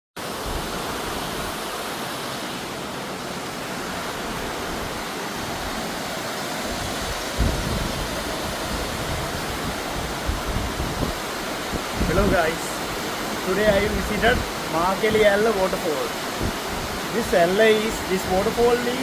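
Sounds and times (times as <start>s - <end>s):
waterfall roaring: 0.2s - 19.0s.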